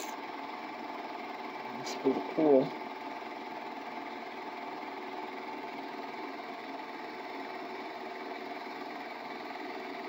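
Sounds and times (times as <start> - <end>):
small motor humming: 0.0 - 10.0.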